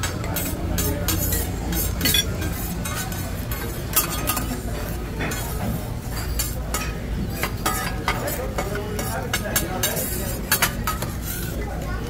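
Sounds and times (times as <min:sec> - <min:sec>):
metal spatulas clinking and scraping: 0:00.0 - 0:11.6.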